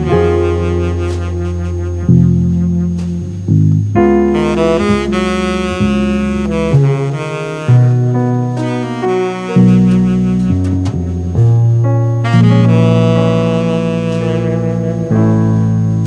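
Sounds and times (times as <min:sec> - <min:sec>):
instrumental melody of held notes: 0:00.0 - 0:16.0
low bass line: 0:00.0 - 0:16.0.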